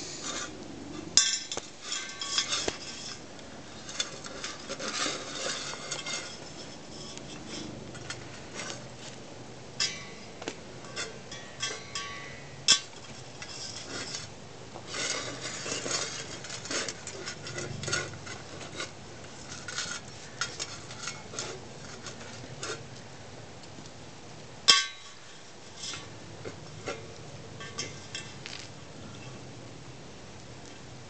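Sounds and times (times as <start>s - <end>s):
metal bowl scraping on concrete: 0.0s - 9.2s, 9.8s - 22.9s, 24.8s - 28.6s.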